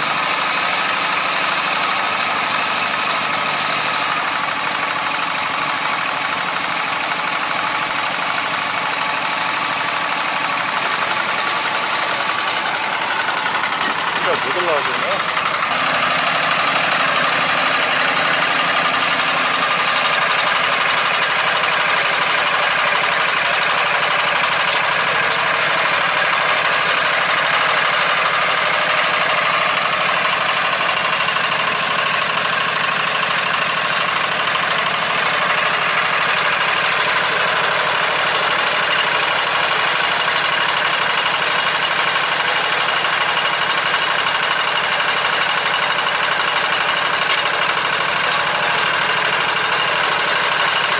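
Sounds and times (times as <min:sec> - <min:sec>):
small farm machine engine running: 0:00.0 - 0:50.9.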